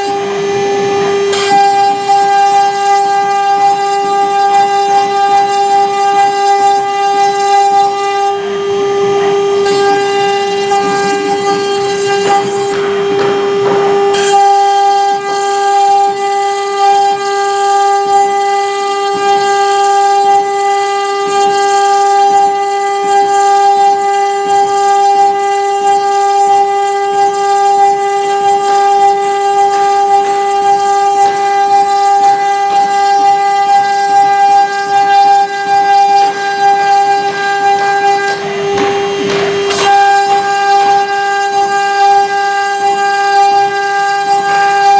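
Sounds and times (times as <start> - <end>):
bit rasping through wood: 0.0 - 44.9
router spindle high whine: 0.0 - 44.9.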